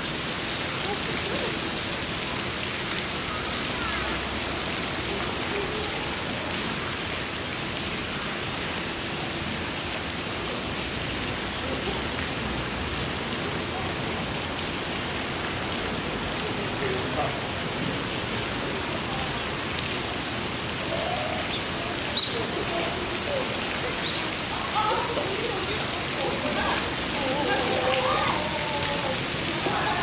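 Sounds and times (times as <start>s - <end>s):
falling water hiss: 0.0s - 30.0s.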